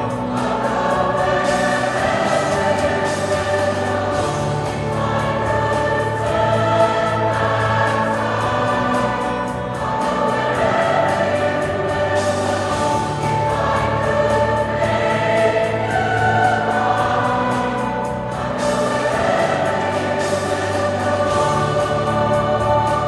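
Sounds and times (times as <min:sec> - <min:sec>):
mixed choir singing in harmony: 0:00.0 - 0:23.0.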